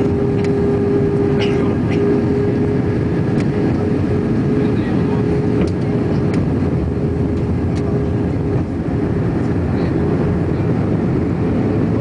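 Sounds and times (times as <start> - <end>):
airliner engine roar: 0.0 - 12.0.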